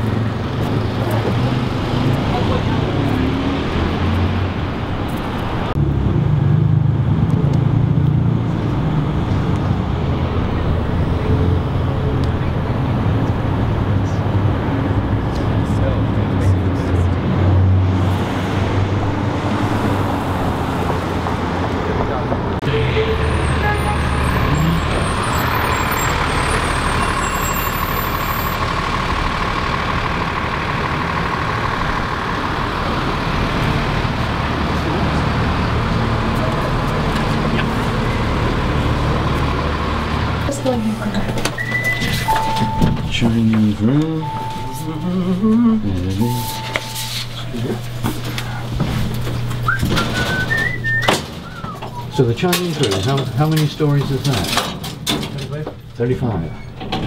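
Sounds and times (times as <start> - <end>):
deep engine rumble: 0.0 - 57.0
passing cars hum: 0.0 - 57.0
road traffic noise: 0.0 - 57.0.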